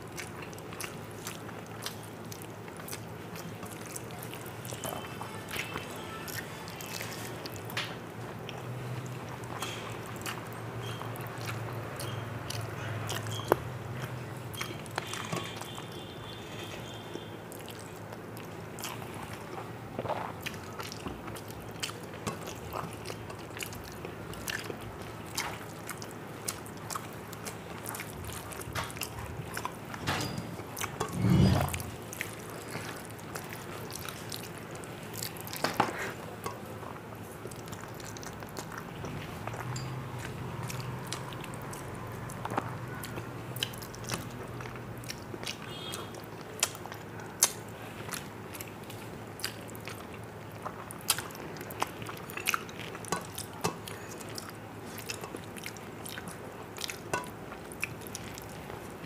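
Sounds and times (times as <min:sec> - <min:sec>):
chewing and mouth smacks: 0:00.0 - 0:29.9, 0:30.6 - 0:59.0.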